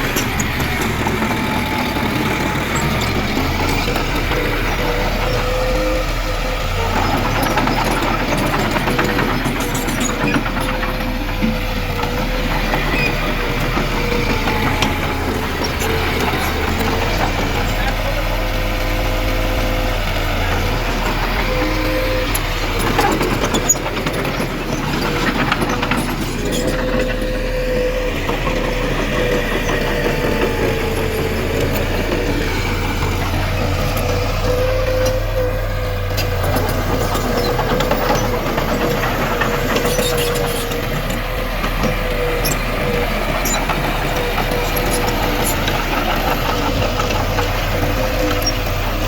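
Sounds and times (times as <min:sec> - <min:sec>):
constant machine whine: 0:00.0 - 0:49.0
diesel engine running: 0:00.0 - 0:49.0.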